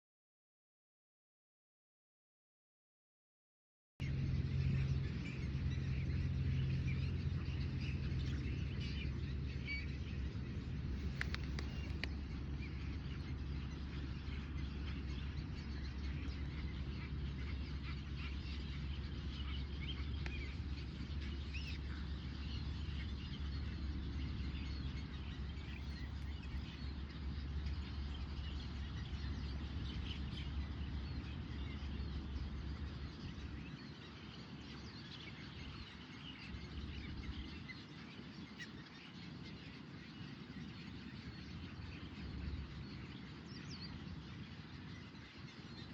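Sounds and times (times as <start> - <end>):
small birds chirping: 4.0 - 45.9
steady low rumble: 4.0 - 45.9.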